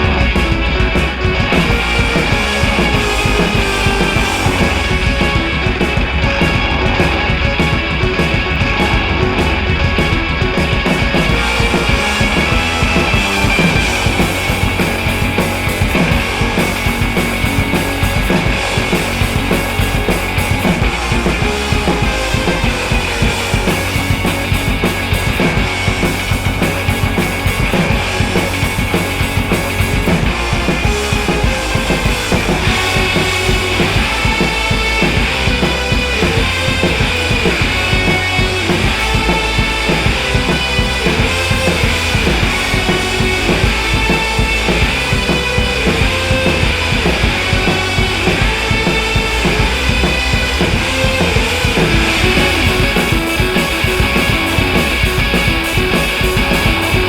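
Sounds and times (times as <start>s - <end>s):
rock music with drums and guitar: 0.0s - 57.0s.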